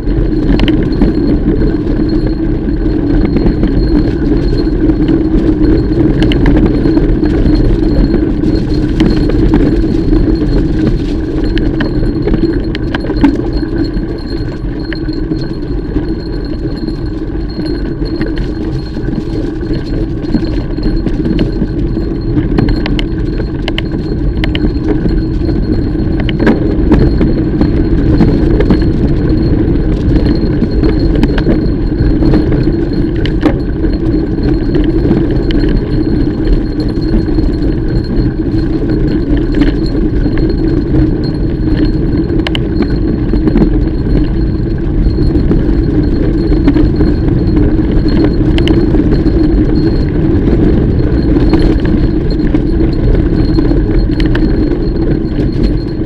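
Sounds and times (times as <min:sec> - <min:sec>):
metallic clinks and rattles: 0:00.0 - 0:56.0
mountain bike riding rumble: 0:00.0 - 0:56.0.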